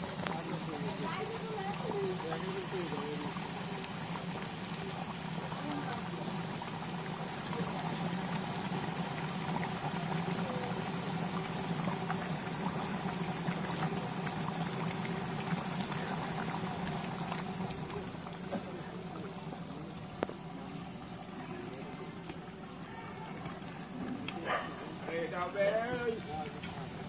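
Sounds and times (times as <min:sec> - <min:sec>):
curry bubbling and sizzling: 0:00.0 - 0:27.0.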